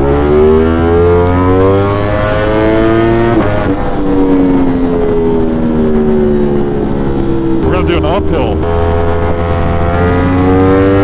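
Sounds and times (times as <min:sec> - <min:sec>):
motorcycle engine revving: 0:00.0 - 0:06.7, 0:07.6 - 0:11.0
wind and road noise: 0:00.0 - 0:11.0.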